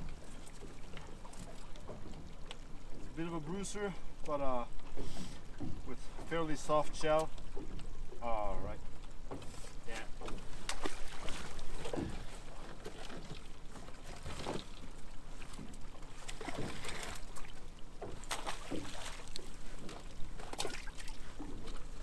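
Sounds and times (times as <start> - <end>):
water and boat noise: 0.0 - 22.0.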